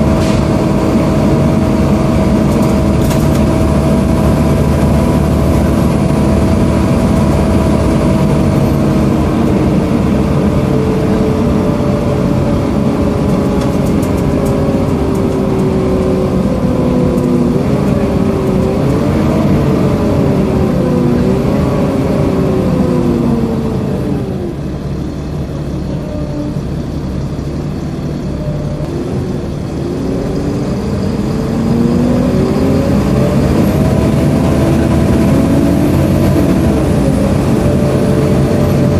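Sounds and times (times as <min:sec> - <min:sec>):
bus engine and fan drone: 0:00.0 - 0:38.9.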